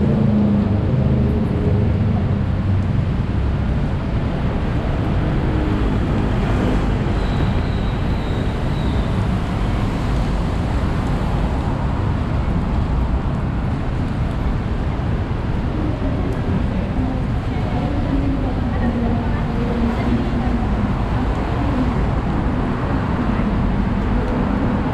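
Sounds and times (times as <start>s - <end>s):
road traffic rumble: 0.0s - 24.9s.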